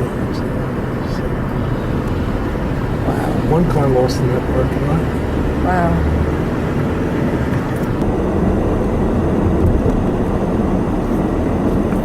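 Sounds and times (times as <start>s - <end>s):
car engine: 0.0s - 12.0s
road noise: 0.0s - 12.0s.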